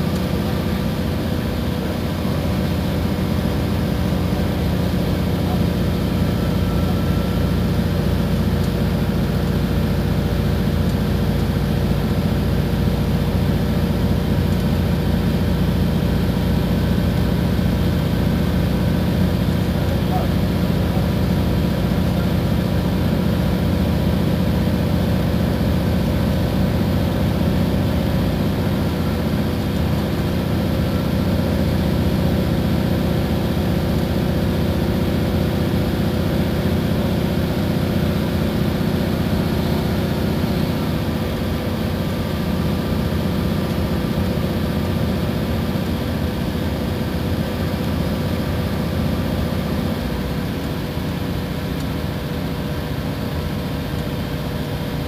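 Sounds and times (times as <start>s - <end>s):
bus engine droning: 0.0s - 55.0s.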